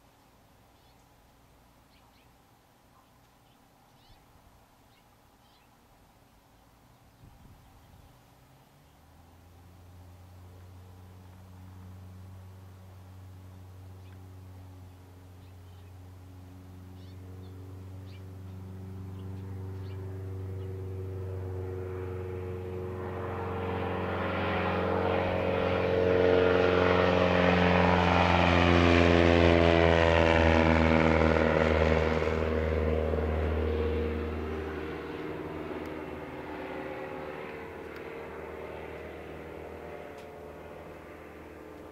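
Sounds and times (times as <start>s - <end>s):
propeller plane engine at full power: 7.0s - 41.9s.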